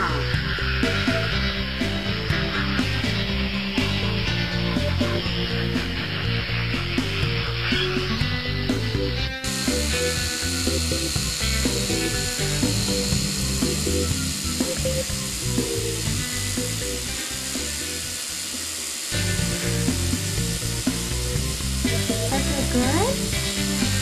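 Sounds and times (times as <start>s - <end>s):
background music: 0.0s - 24.0s
electric toothbrush buzzing: 0.0s - 24.0s.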